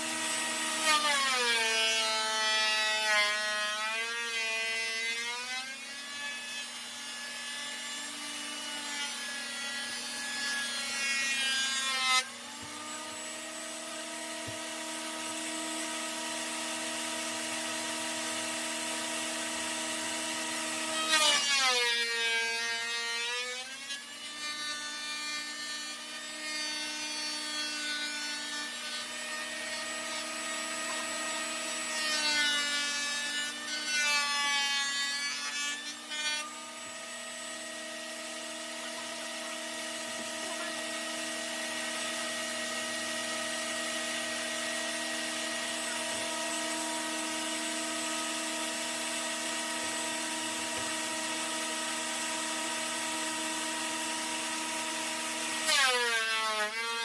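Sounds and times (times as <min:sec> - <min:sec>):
thickness planer whining: 0:00.0 - 0:57.0.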